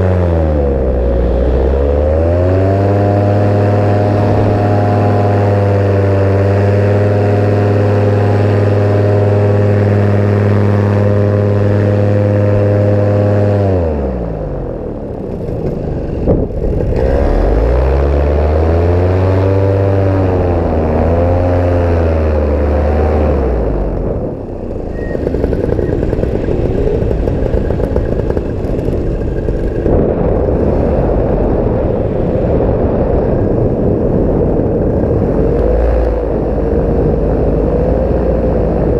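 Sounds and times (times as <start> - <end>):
paramotor engine revving: 0.0 - 38.9
steady rushing noise: 0.0 - 38.9.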